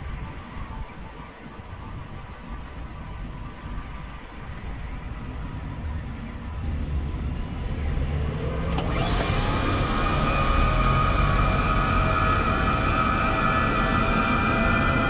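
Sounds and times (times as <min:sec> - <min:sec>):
sliding multi-tone whine: 0:00.0 - 0:15.0
road and traffic rumble: 0:02.2 - 0:15.0.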